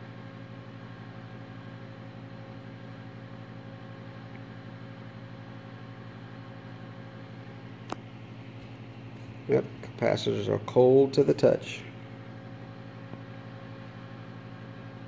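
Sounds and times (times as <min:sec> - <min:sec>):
transformer electrical hum: 0:00.0 - 0:15.0.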